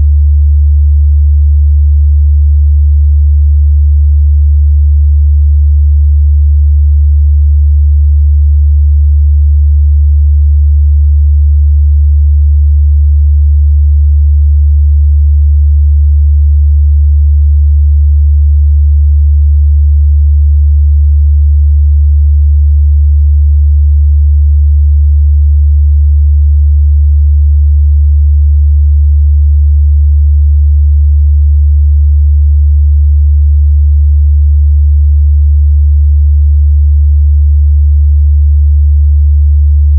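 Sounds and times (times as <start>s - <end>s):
low sine test tone: 0.0s - 39.9s.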